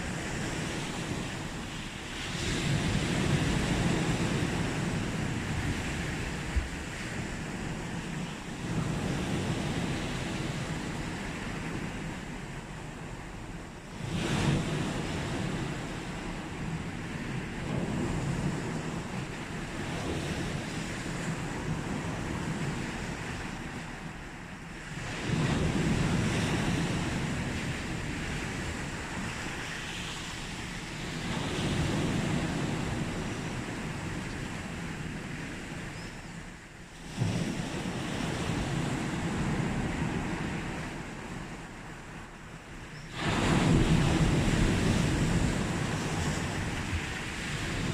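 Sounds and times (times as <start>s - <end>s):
sea waves breaking on beach: 0.0s - 47.9s.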